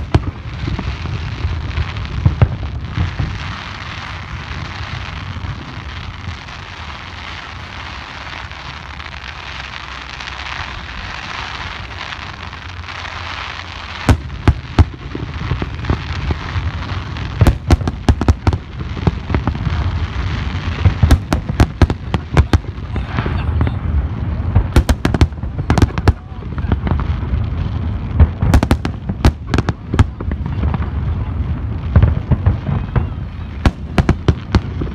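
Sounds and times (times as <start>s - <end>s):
steady fireworks noise: 0.0s - 34.9s.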